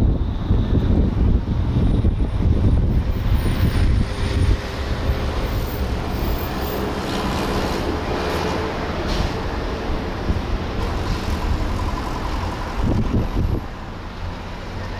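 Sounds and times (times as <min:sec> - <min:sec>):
road noise: 0:00.0 - 0:14.9
wind rushing over microphone: 0:00.0 - 0:14.9.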